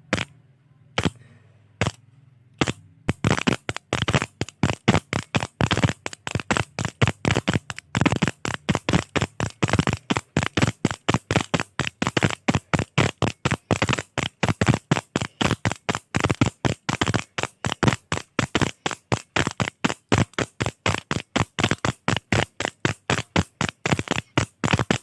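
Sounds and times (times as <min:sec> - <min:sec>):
retractable pen clicking: 0:02.6 - 0:25.0.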